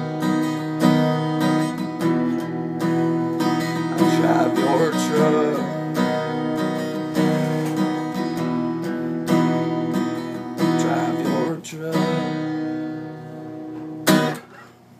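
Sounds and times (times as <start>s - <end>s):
acoustic guitar strumming: 0.0s - 14.9s.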